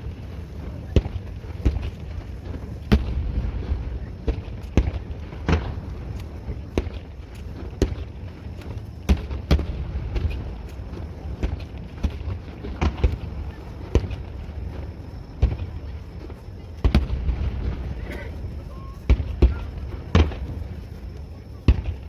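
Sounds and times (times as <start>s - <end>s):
fireworks booming: 0.0s - 22.0s
steady low rumble: 0.0s - 22.0s.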